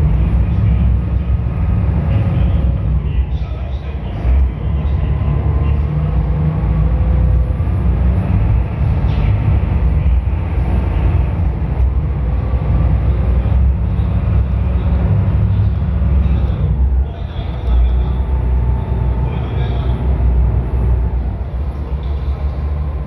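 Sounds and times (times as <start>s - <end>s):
ferry diesel engine drone: 0.0s - 23.0s.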